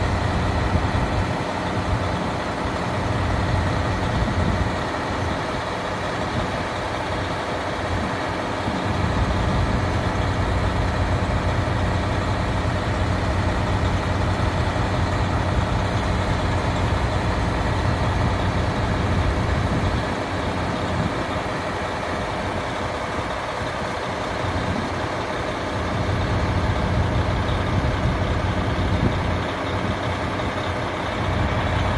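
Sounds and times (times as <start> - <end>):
diesel railcar engine idling: 0.0 - 31.9.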